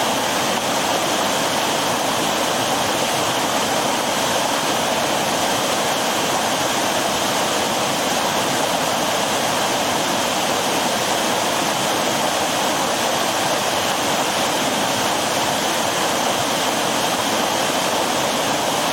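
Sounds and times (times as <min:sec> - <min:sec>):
river water rushing over rocks: 0:00.0 - 0:18.9.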